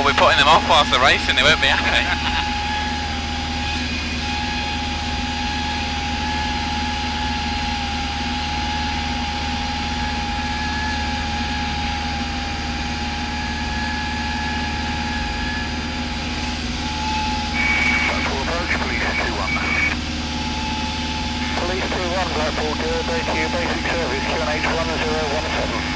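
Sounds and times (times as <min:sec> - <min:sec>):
propeller plane engine droning: 0:00.0 - 0:25.9
thin steady whine: 0:00.0 - 0:25.9.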